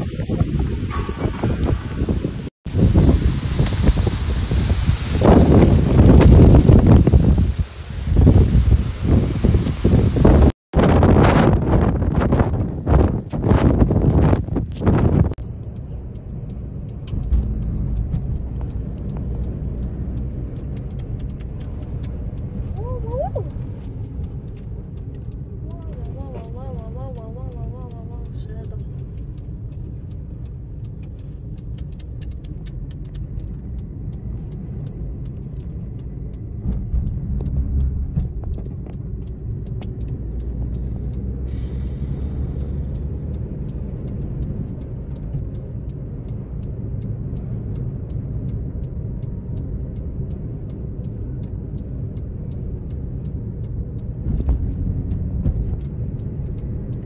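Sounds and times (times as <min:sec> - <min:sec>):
road and wind rumble inside car: 0:00.0 - 0:57.0.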